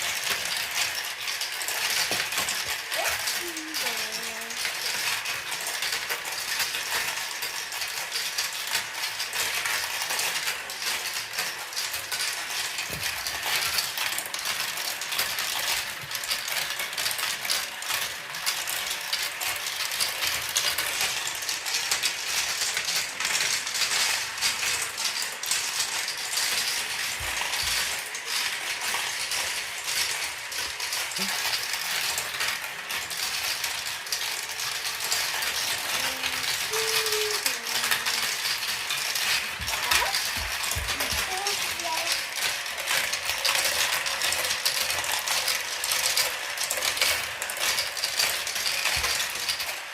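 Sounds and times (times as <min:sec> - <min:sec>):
marbles clicking down plastic tracks: 0:00.0 - 0:49.9.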